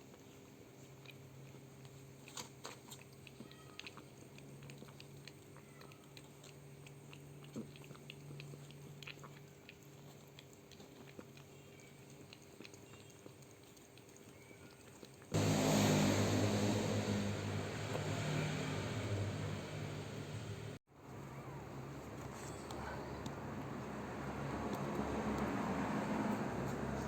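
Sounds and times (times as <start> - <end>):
cat chewing and wet clicking: 0.0 - 18.8, 21.0 - 27.0.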